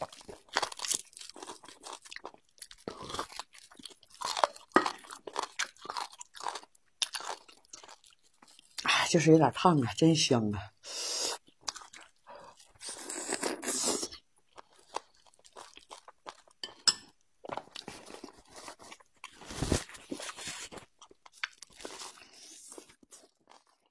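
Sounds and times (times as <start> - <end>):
person chewing: 0.0 - 8.9, 11.2 - 23.9.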